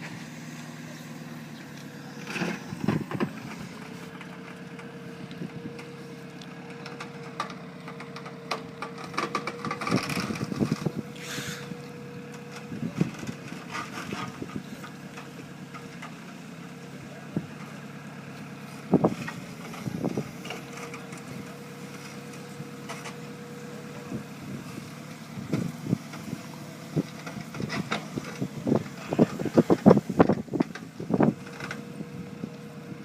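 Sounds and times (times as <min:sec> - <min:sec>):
engine knocks: 0:00.0 - 0:16.5, 0:17.3 - 0:33.0
engine running: 0:00.0 - 0:33.0.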